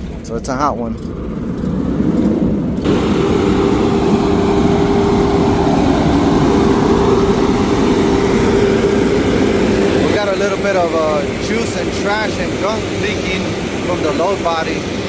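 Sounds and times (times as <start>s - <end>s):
diesel engine rumbling and whining: 0.0s - 15.0s
loud rushing noise: 1.2s - 15.0s.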